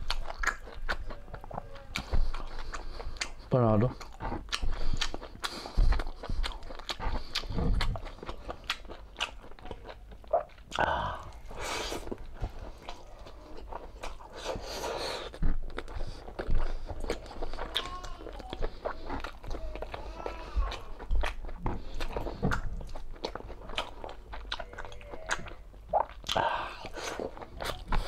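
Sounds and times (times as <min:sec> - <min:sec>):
person chewing: 0:00.0 - 0:28.0.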